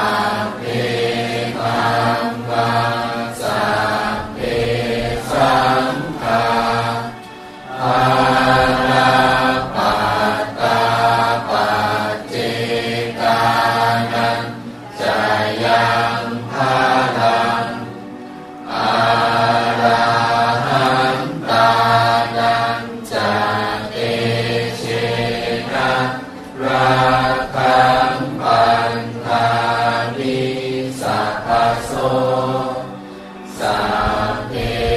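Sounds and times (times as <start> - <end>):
monk chanting: 0.0 - 18.0, 18.7 - 34.9.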